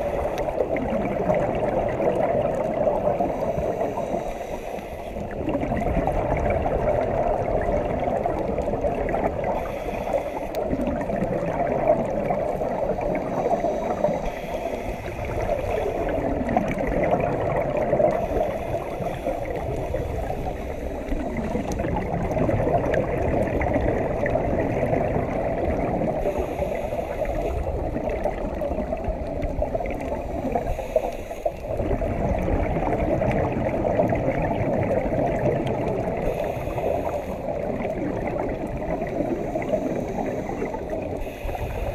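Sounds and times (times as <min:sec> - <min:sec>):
underwater rushing gurgling water: 0:00.0 - 0:41.9.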